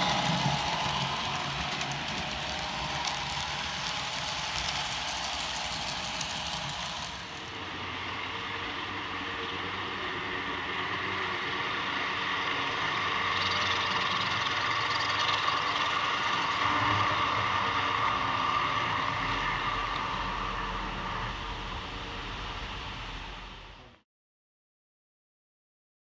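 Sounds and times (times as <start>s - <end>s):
model train mechanical drone: 0.0s - 24.0s.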